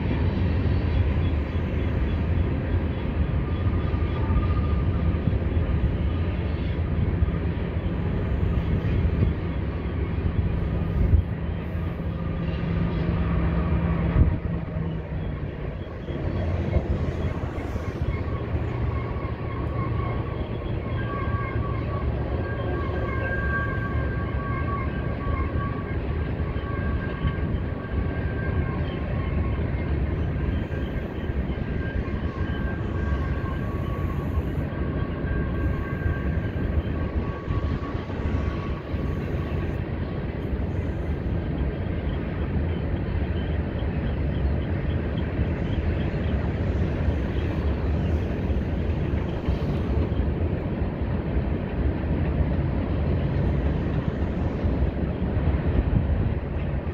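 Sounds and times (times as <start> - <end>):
high steady whine: 0.0 - 56.9
train wheels rumbling on rail: 0.0 - 56.9.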